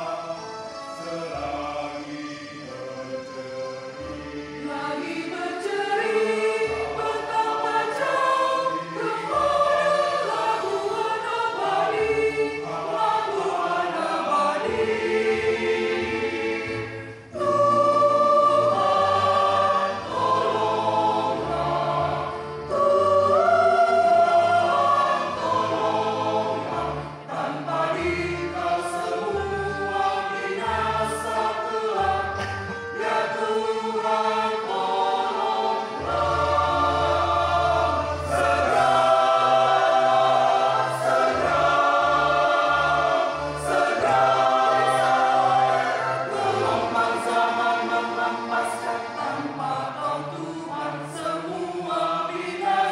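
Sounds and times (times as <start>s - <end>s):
mixed choir singing a hymn: 0.0s - 52.9s.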